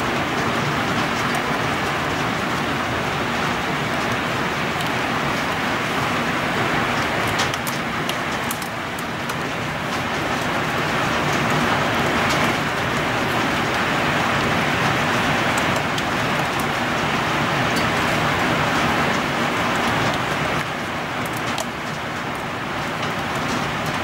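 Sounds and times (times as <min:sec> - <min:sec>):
heavy rain falling: 0:00.0 - 0:24.0
raindrops ticking close by: 0:00.0 - 0:24.0.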